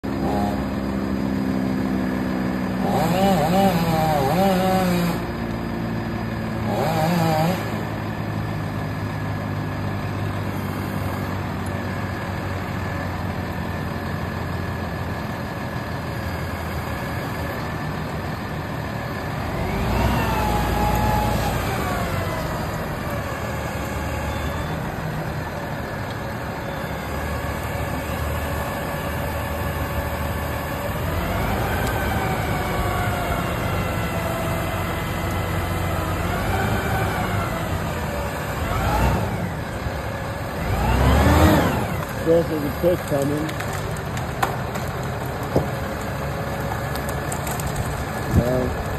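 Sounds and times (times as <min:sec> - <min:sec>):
crane engine revving: 0:00.0 - 0:48.9.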